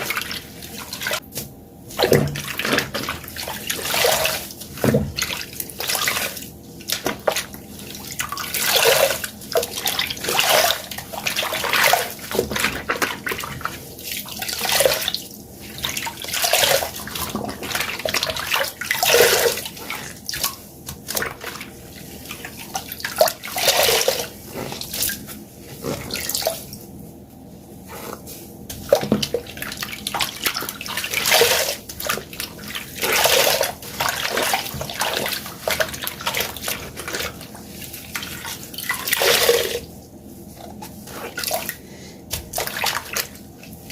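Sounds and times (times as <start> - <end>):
sponge squeezed gushing water: 2.0 - 26.8, 28.8 - 39.9.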